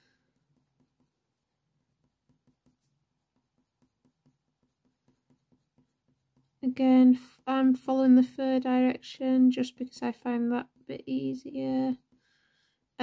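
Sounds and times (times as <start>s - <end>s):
coloured pencil scratching paper: 0.3s - 7.5s, 9.6s - 13.0s.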